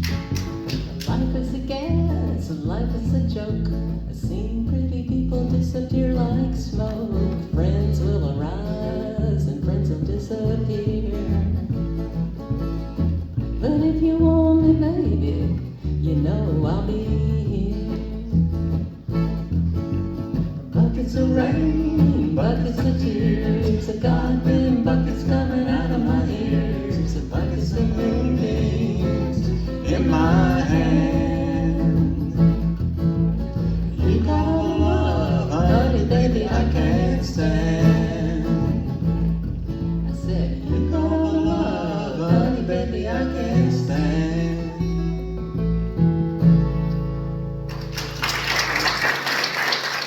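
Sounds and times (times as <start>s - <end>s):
person singing folk song: 0.0s - 12.4s, 13.0s - 45.8s
guitar playing chords: 0.0s - 47.9s.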